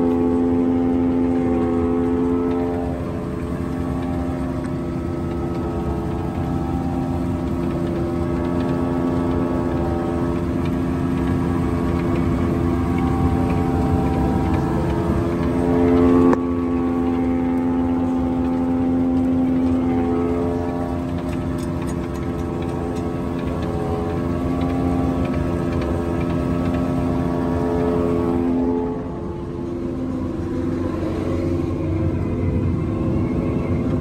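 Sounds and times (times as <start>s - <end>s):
forage harvester droning: 0.0s - 34.0s.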